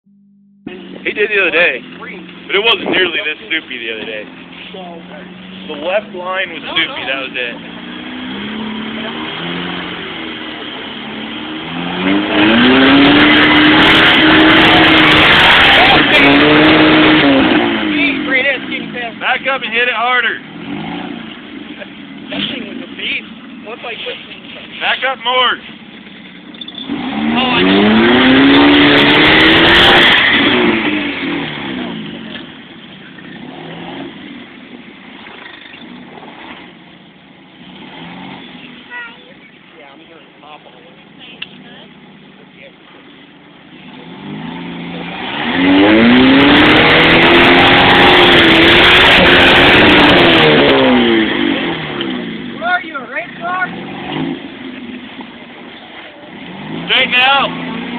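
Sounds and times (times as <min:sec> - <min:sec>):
off-road vehicle engine revving: 0:00.6 - 0:57.9.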